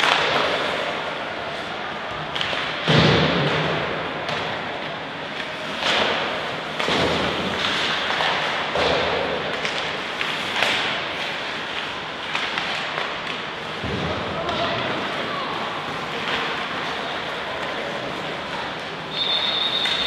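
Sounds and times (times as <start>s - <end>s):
skates scraping ice: 0.0s - 20.0s.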